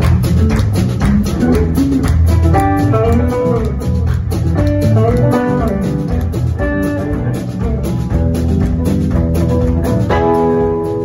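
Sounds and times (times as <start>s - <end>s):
lead guitar bending notes: 0.0s - 11.0s
rock band playing: 0.0s - 11.0s.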